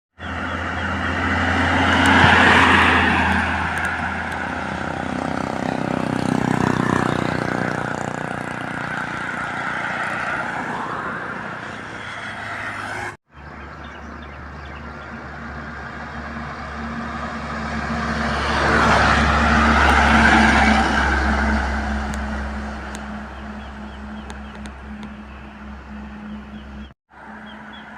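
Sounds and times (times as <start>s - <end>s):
heavy trucks passing: 0.2s - 27.9s.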